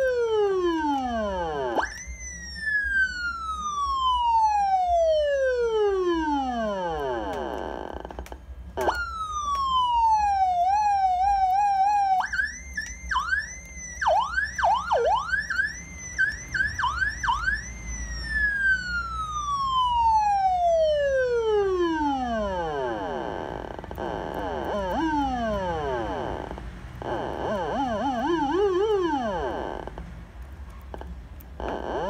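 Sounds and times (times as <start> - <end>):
electronic siren: 0.0 - 32.0.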